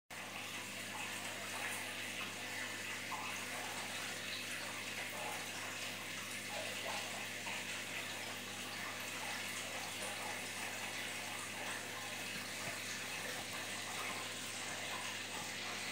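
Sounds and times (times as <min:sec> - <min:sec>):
water splashing and bubbling: 0:00.1 - 0:15.9.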